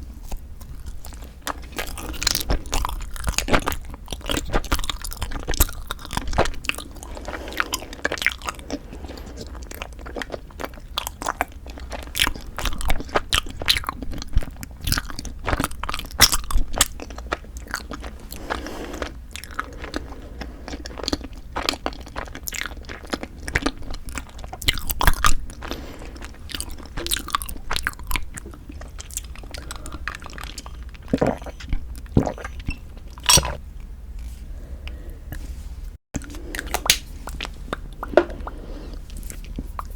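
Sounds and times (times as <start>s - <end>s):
crunchy chewing: 0.1s - 34.4s.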